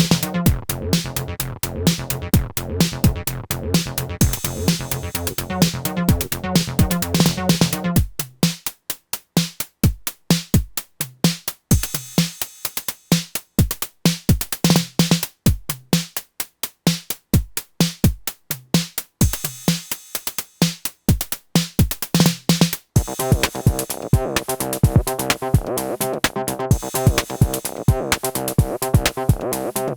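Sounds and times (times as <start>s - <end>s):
drum machine beat: 0.0s - 29.9s.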